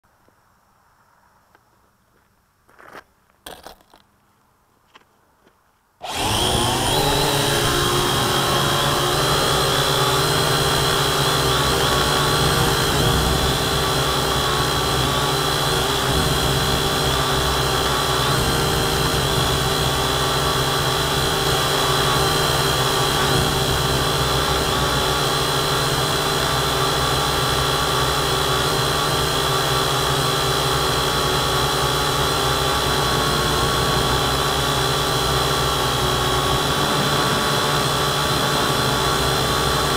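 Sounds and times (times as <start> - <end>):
drone motors whining: 6.0 - 39.9.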